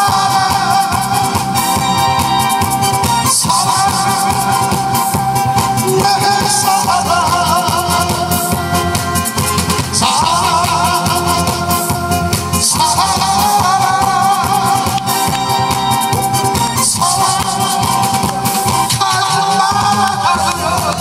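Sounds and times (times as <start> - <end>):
man singing into microphone: 0.0 - 2.1, 3.2 - 21.0
backing track with steady beat: 0.0 - 21.0.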